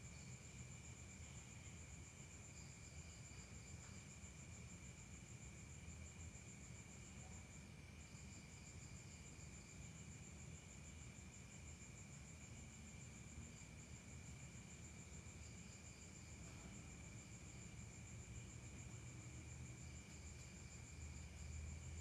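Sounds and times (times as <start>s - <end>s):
faint crickets chirping: 0.0s - 22.0s.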